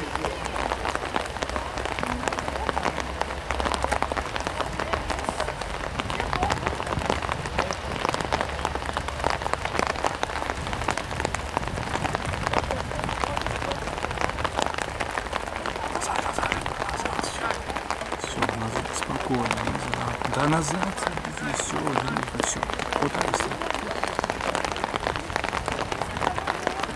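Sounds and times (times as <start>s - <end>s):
crackling patter of small ticks: 0.0s - 26.9s.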